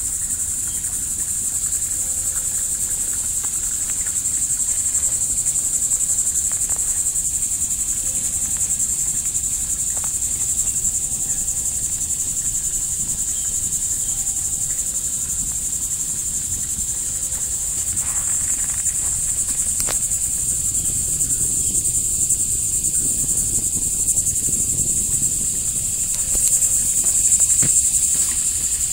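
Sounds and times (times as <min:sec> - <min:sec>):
insects buzzing: 0:00.0 - 0:28.9.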